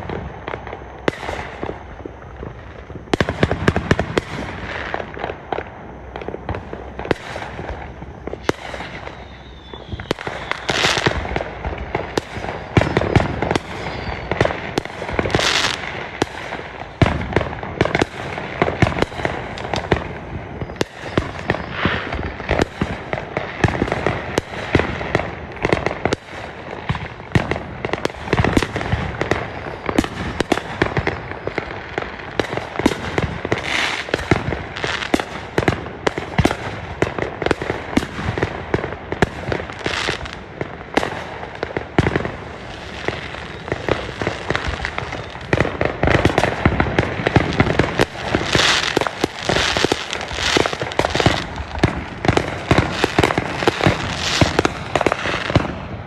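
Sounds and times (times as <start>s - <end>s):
fireworks bangs and pops: 0.0s - 56.0s.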